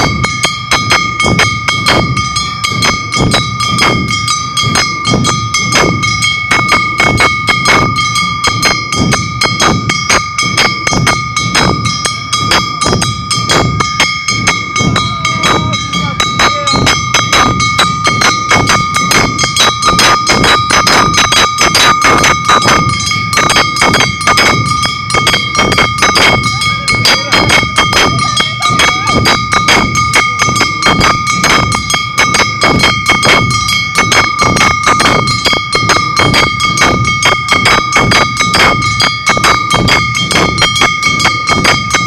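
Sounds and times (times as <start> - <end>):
continuous metallic ringing: 0.0 - 42.0
drums and gongs beating: 0.0 - 42.0.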